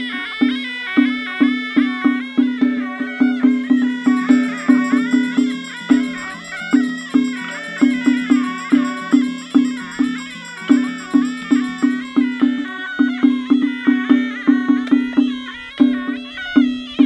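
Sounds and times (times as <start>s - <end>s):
drum beats: 0.0s - 17.0s
reed pipe melody: 0.0s - 17.0s.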